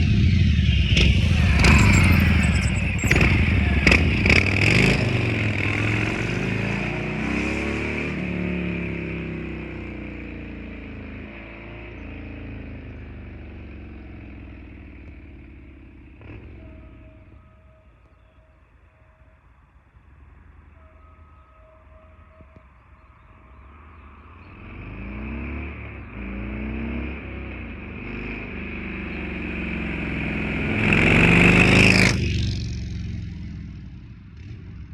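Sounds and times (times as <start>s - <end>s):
motorcycle engine revving: 0.0s - 17.7s, 23.6s - 34.9s.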